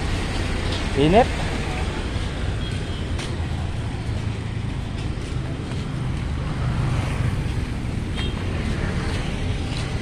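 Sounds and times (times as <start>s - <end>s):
background traffic: 0.0s - 10.0s.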